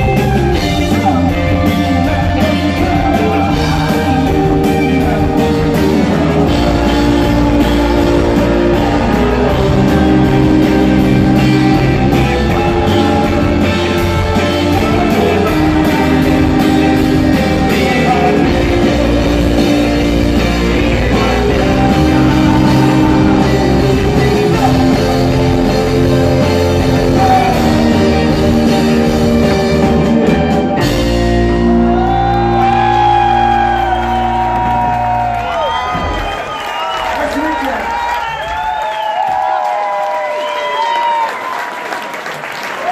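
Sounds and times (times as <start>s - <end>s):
electric guitars: 0.0s - 36.4s
bass guitar: 0.0s - 36.5s
male lead singer: 0.0s - 37.7s
drum kit: 0.0s - 39.7s.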